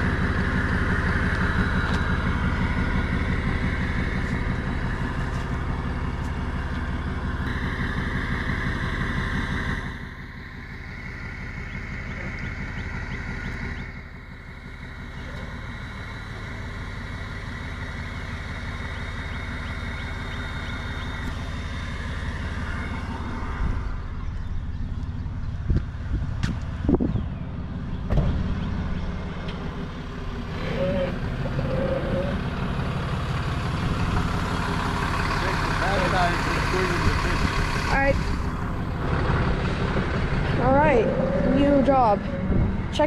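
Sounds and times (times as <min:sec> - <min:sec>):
tow truck engine running: 0:00.0 - 0:43.0.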